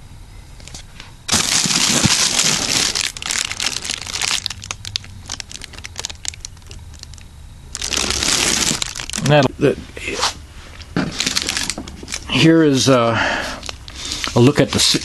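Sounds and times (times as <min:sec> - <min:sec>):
plastic wrapping crinkling: 0:00.6 - 0:09.5, 0:10.7 - 0:15.0.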